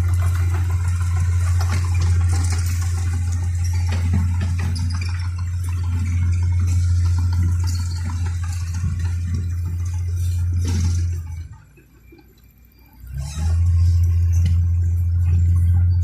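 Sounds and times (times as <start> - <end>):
bulldozer engine droning: 0.0 - 16.0.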